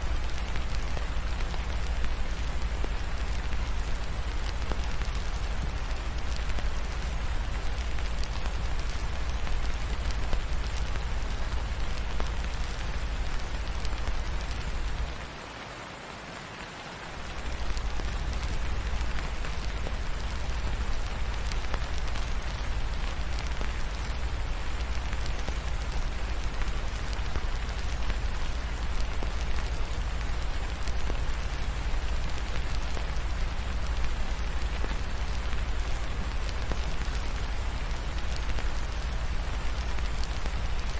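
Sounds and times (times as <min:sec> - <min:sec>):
crackling fireplace: 0:00.0 - 0:15.4, 0:17.1 - 0:40.9
steady rain falling: 0:00.0 - 0:40.9.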